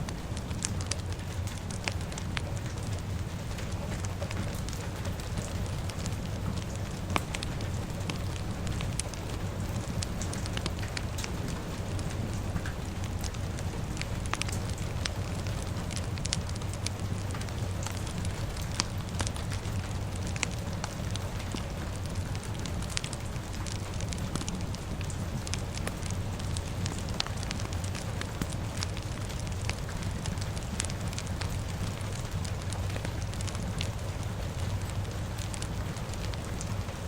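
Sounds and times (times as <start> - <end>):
fire crackling and popping: 0.0 - 37.0
steady rain: 0.0 - 37.0.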